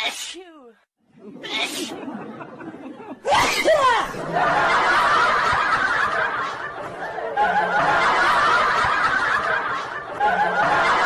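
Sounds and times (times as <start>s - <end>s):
people laughing: 1.1s - 11.0s.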